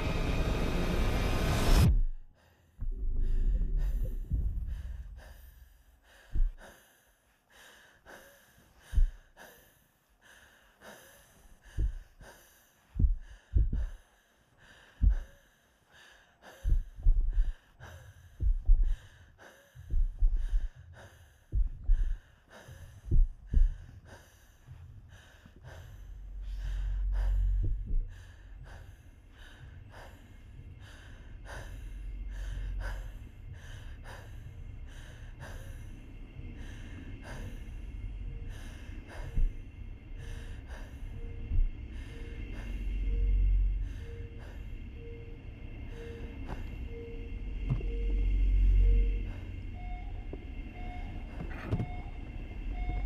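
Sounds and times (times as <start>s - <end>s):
low rumble: 0.0s - 6.7s, 8.8s - 9.4s, 11.4s - 14.1s, 14.9s - 15.4s, 16.6s - 53.0s
person breathing heavily: 1.1s - 53.0s.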